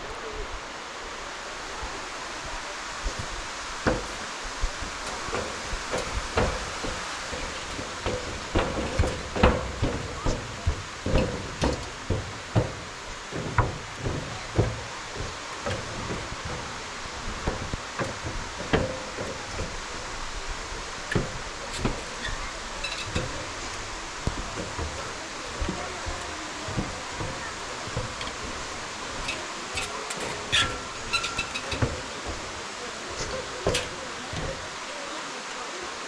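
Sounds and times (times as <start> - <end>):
background hiss: 0.0 - 36.0
footsteps and thumps on camera: 3.0 - 20.1, 21.1 - 34.7.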